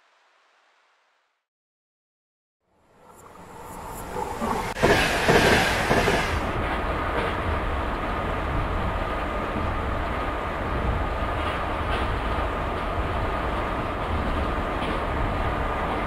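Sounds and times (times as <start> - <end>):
high-speed train rushing: 2.8 - 16.0.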